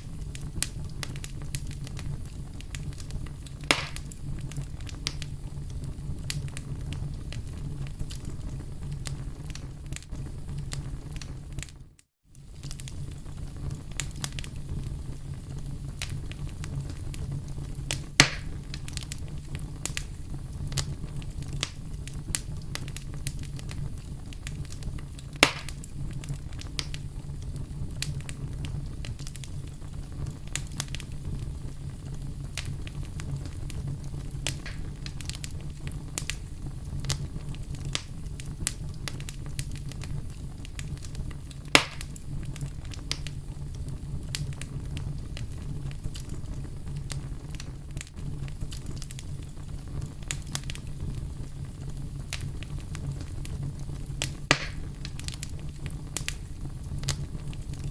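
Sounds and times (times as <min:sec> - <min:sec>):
loud snaps of fire: 0:00.0 - 0:57.9
wood fire crackling: 0:00.0 - 0:57.9.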